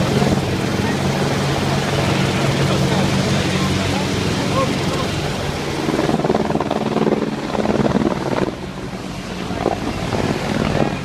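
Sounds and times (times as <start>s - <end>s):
helicopter flying past: 0.0s - 11.0s.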